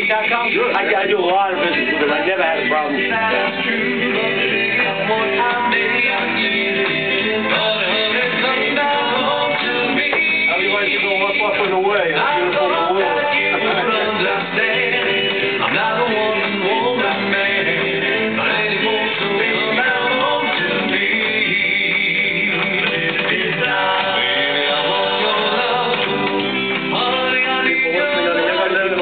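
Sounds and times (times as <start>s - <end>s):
doo-wop song with band: 0.0s - 29.0s.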